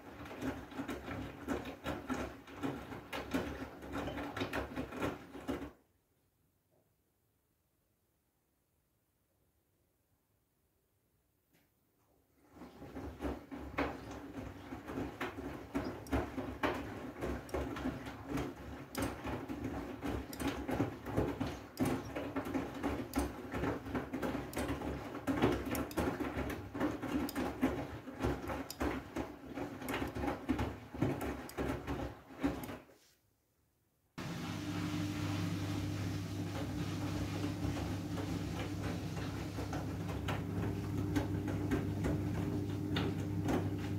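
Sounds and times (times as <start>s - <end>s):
washing machine motor hum: 0.0s - 5.7s, 12.5s - 32.8s, 34.2s - 43.9s
water sloshing in washing machine: 0.0s - 5.8s, 12.4s - 32.9s, 34.2s - 43.9s.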